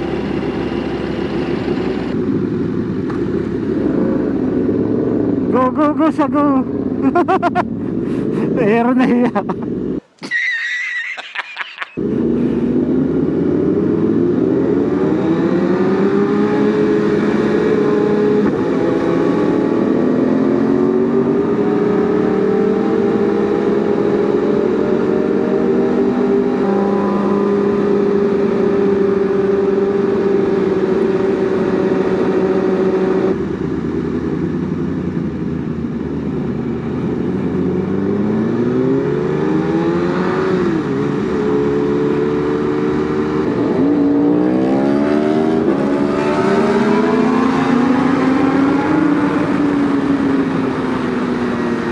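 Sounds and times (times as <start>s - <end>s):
motorcycle engine revving: 0.0s - 5.7s, 12.0s - 51.9s.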